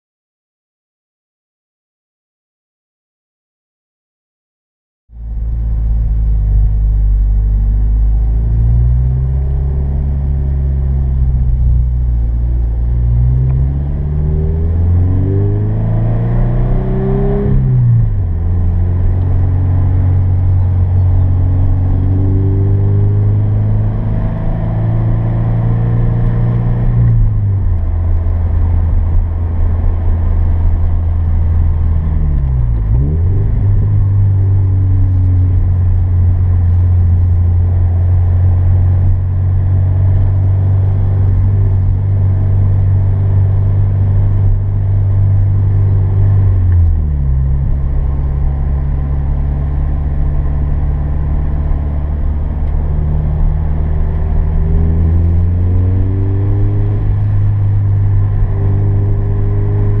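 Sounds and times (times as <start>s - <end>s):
car engine revving: 5.2s - 60.0s.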